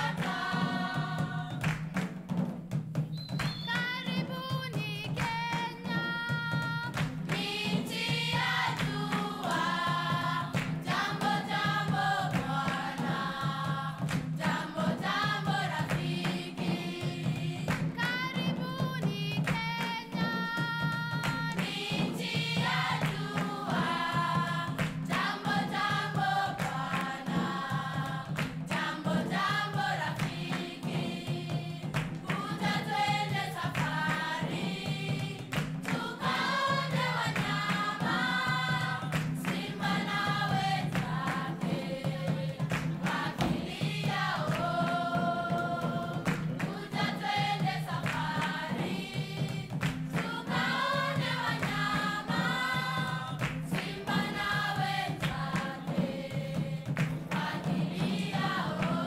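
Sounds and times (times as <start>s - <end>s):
choir singing: 0.0s - 1.7s, 5.4s - 59.0s.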